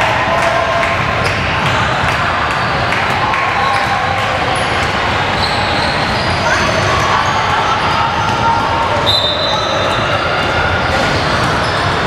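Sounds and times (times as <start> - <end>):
spectators' voices: 0.0 - 12.0.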